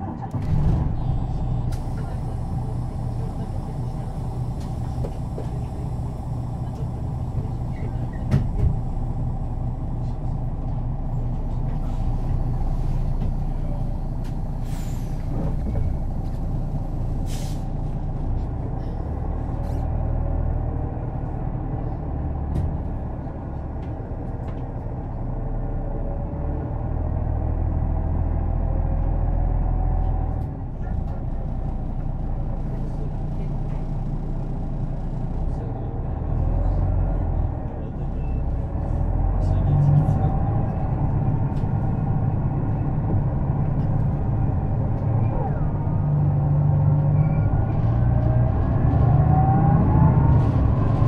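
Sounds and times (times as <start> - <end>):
bus diesel engine droning: 0.0 - 51.0.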